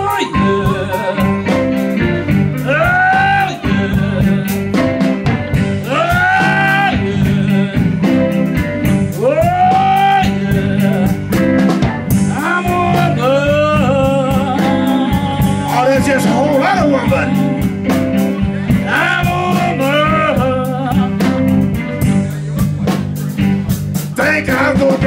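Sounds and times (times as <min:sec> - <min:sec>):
bass line: 0:00.0 - 0:25.0
drums: 0:00.0 - 0:25.0
electric guitar lead lines: 0:00.0 - 0:25.0.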